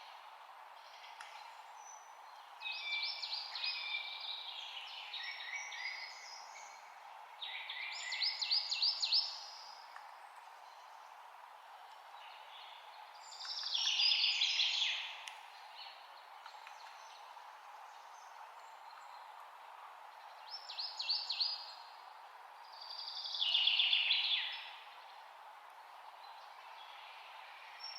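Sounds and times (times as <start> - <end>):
songbirds singing: 0.0 - 27.9
steady outdoor hiss: 0.0 - 27.9.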